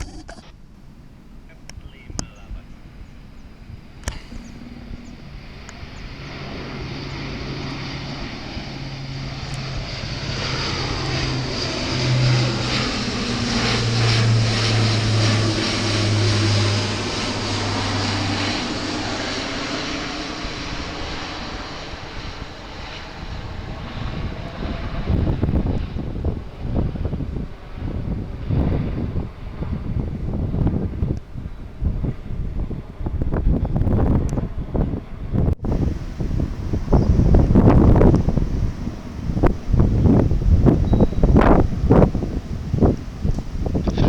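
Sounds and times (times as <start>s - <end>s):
turboprop aircraft passing by: 0.0s - 44.0s.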